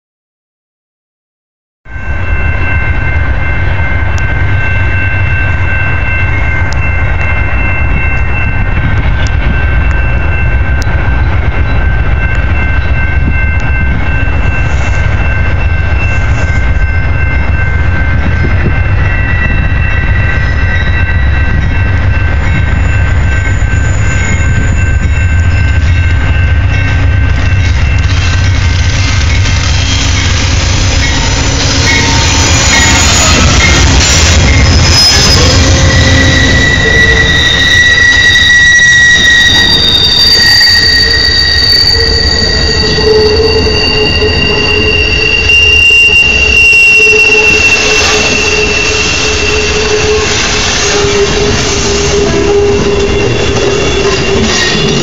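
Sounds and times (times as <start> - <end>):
passenger train rumbling: 1.9 - 55.0
steady high tones: 1.9 - 55.0.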